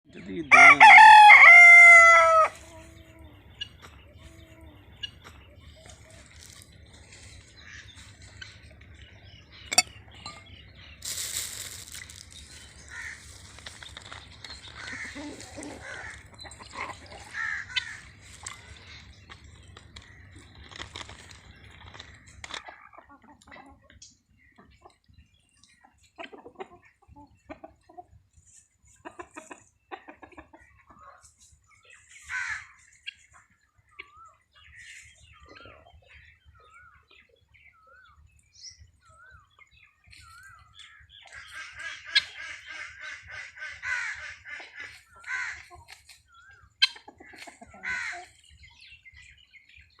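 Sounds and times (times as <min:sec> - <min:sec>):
chickens clucking and squawking: 0:00.1 - 0:50.0.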